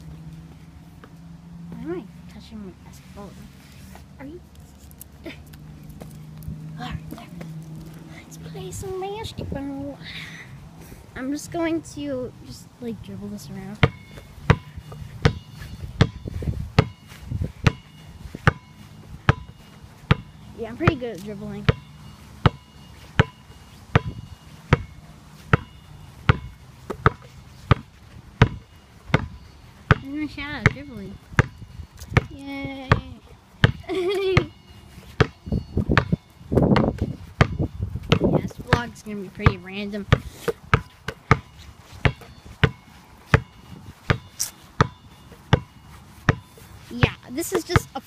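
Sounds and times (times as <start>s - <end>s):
basketball bouncing on asphalt: 0.3s - 1.9s, 5.5s - 8.0s, 13.4s - 48.0s.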